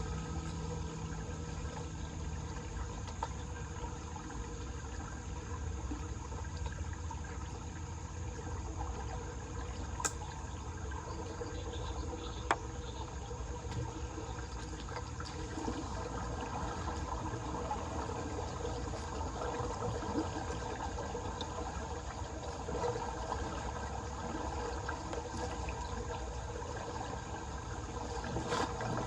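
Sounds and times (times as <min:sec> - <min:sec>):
water draining into storm drain: 0:00.0 - 0:29.0.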